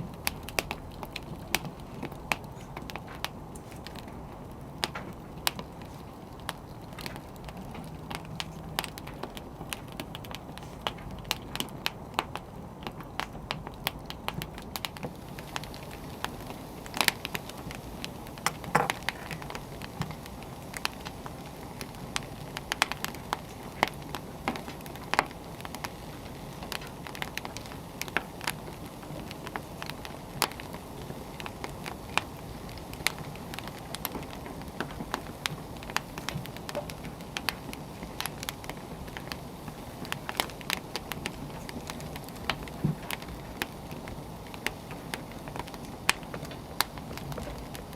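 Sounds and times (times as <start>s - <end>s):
firewood burning crackling and popping: 0.0s - 47.9s.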